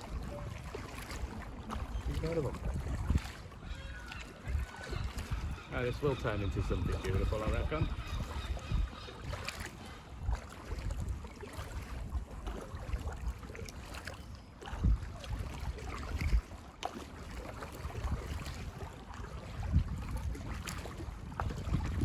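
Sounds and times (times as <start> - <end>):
wind buffeting microphone: 0.0 - 16.6, 17.2 - 22.0
paddle strokes in water: 0.0 - 22.0.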